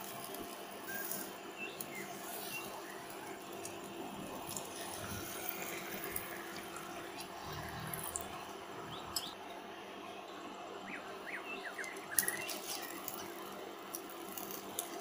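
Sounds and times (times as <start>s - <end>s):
egg sizzling in a pan: 0.0s - 9.3s, 12.1s - 15.0s.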